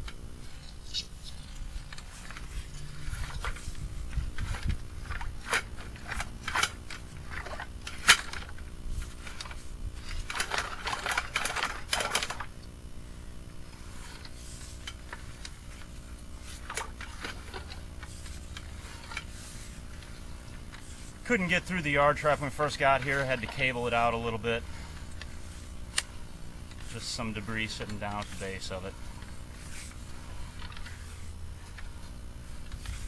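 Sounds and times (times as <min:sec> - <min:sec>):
cable clicking and scraping in pipe: 0:00.0 - 0:12.8, 0:13.6 - 0:33.0
low steady hum: 0:00.0 - 0:33.0.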